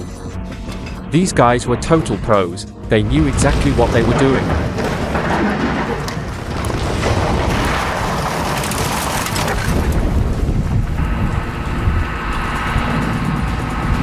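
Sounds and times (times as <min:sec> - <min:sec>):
heavy machinery rumbling: 0:00.0 - 0:14.0
steady whine: 0:00.0 - 0:14.0.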